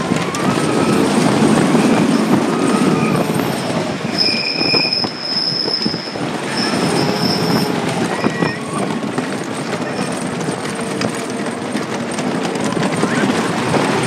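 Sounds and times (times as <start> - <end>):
high wheel squeals: 0.0 - 11.7
roller coaster roaring on wooden track: 0.0 - 14.0.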